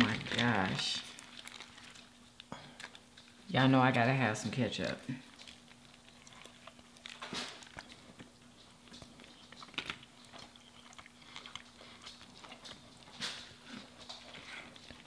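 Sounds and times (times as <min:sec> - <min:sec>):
people biting and chewing: 0:00.0 - 0:03.4, 0:05.2 - 0:15.0.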